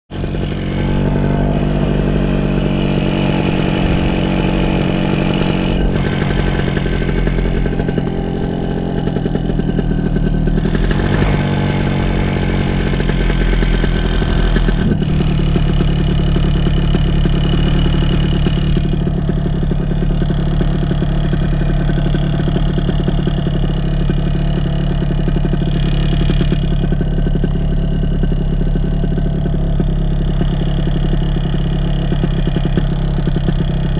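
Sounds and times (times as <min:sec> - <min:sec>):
paramotor engine running: 0:00.1 - 0:33.9.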